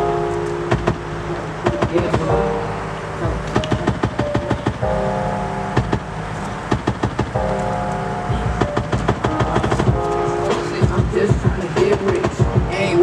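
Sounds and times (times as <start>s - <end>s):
music with drum beat and bass: 0.0s - 2.5s, 3.2s - 13.0s.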